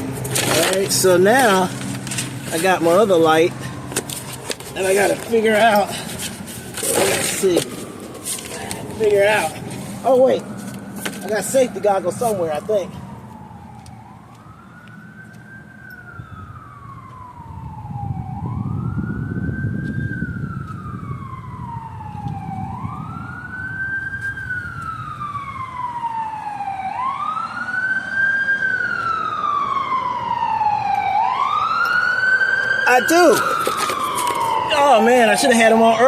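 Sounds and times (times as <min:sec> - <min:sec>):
emergency vehicle siren wailing: 0:00.0 - 0:36.0
low traffic rumble: 0:00.0 - 0:36.0.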